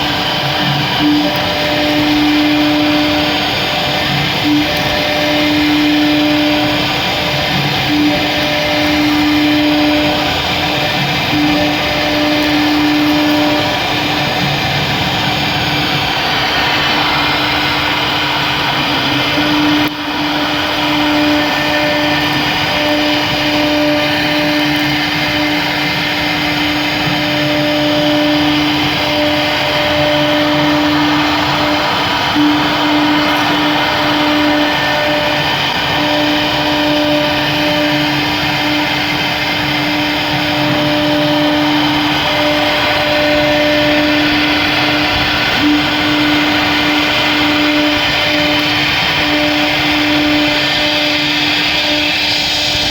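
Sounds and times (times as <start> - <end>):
router spindle high pitch whine: 0.0 - 52.9
rushing noise of cutting plastic: 0.0 - 52.9.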